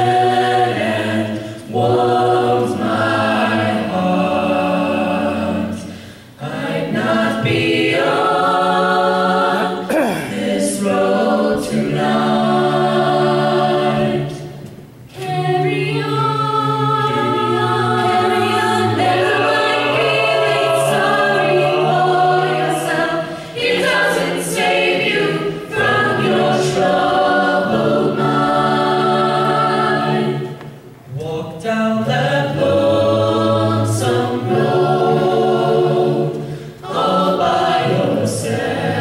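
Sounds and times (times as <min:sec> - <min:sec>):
a cappella choir singing: 0:00.0 - 0:39.0.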